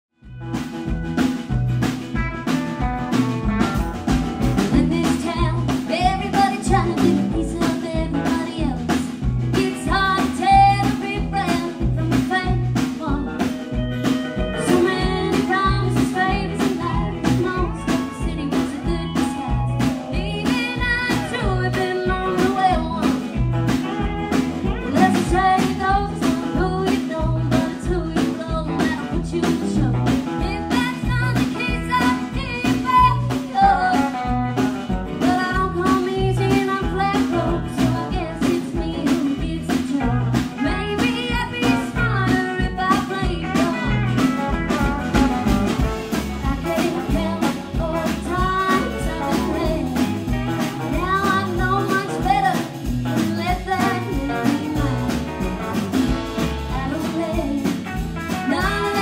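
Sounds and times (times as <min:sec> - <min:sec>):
bass guitar: 0:00.1 - 0:59.0
acoustic and electric guitars: 0:00.2 - 0:59.0
drum kit beat: 0:00.2 - 0:59.0
woman singing lead: 0:04.3 - 0:59.0.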